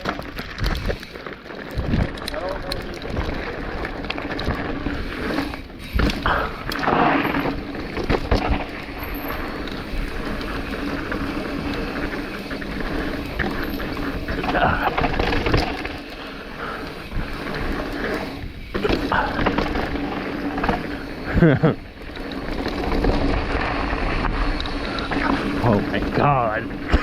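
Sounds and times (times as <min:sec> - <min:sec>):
bike knocking over bumps: 0:00.0 - 0:24.5, 0:25.1 - 0:27.0
bike tyres and rattle: 0:00.0 - 0:27.0.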